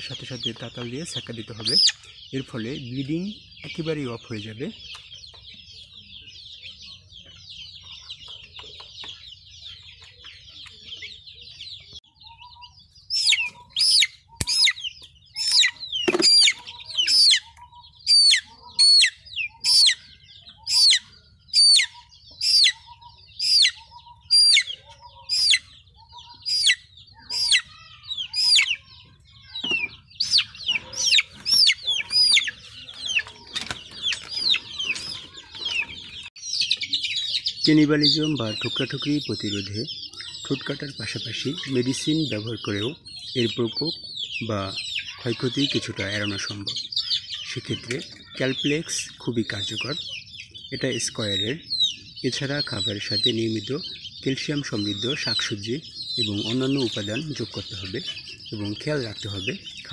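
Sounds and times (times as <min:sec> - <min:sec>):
chicks cheeping: 0:00.0 - 0:59.9
chick distress peeps: 0:10.7 - 0:59.9.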